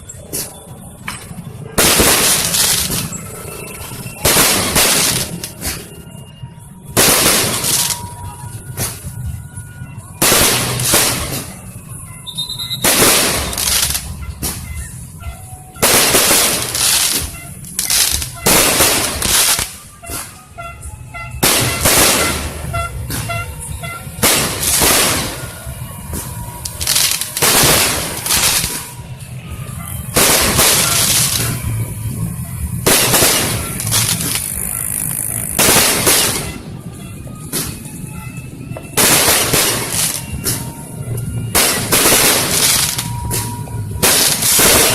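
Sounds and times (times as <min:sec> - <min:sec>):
fireworks bangs with crackle: 0:00.2 - 0:44.9.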